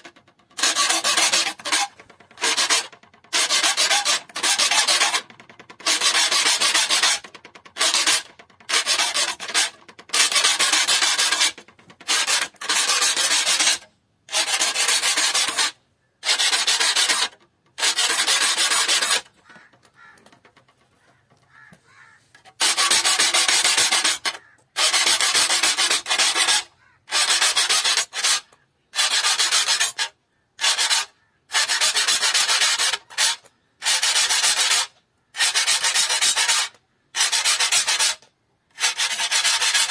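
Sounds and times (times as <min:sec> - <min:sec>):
file rasping on saw teeth: 0:00.0 - 0:20.2, 0:22.5 - 0:39.9.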